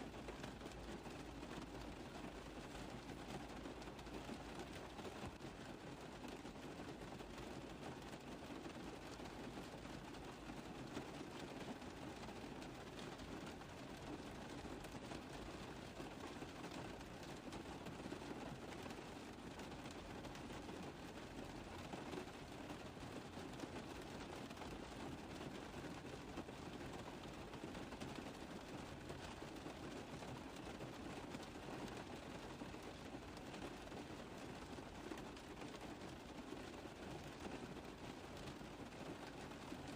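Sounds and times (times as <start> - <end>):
rain tapping on a car roof: 0.0 - 39.9.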